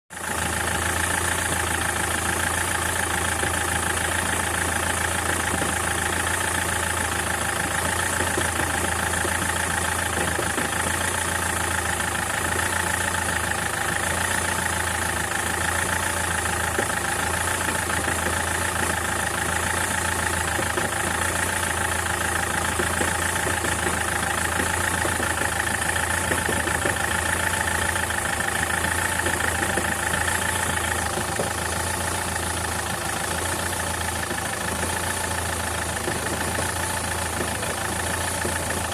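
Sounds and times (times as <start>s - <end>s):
car engine idling with knock: 0.1s - 38.9s.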